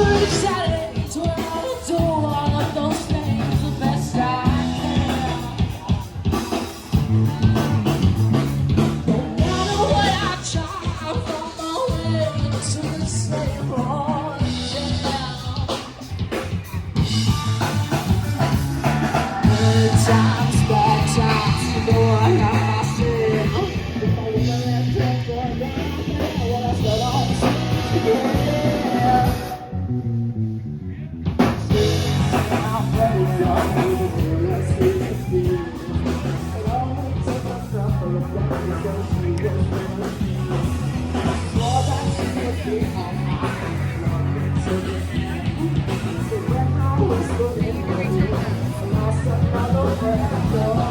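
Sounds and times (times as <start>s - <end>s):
person singing: 0.0s - 8.1s, 8.7s - 30.0s, 31.7s - 50.9s
drums: 0.0s - 50.9s
electric guitar: 0.0s - 50.9s.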